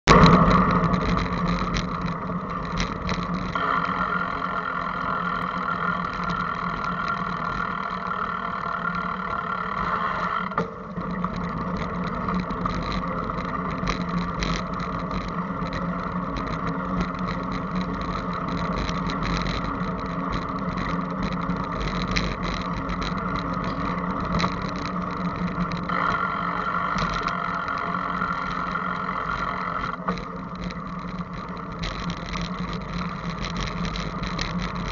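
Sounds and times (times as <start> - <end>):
bicycle riding hum: 0.0 - 34.9
clicks and rattles from bumps: 0.1 - 3.6, 4.4 - 34.9.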